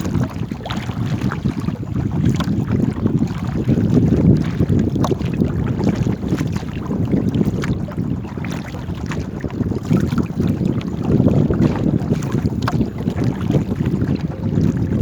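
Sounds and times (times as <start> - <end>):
small ticks and splashes: 0.0 - 15.0
wind rumbling on microphone: 0.0 - 15.0.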